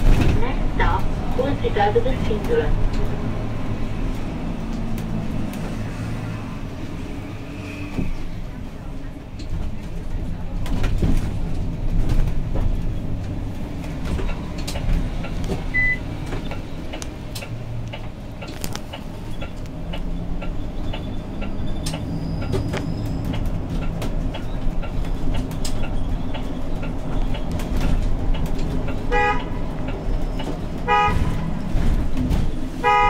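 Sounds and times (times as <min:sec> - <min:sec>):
bus drivetrain and road rumble: 0:00.0 - 0:33.0.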